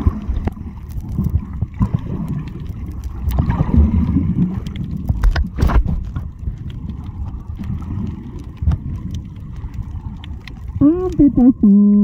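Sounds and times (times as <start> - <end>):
sharp underwater clicks: 0.0 - 12.0
underwater rumble: 0.0 - 12.0.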